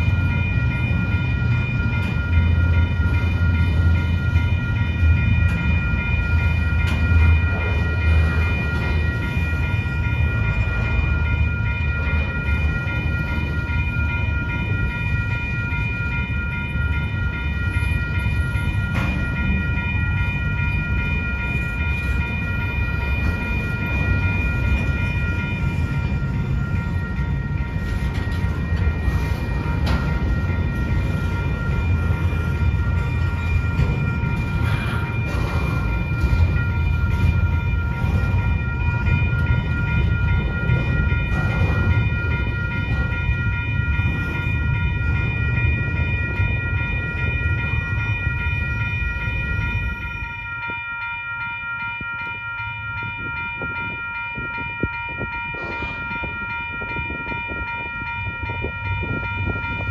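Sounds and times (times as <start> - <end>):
high-pitched ringing tone: 0.0 - 59.9
train wheels rumbling on rail: 0.0 - 59.9.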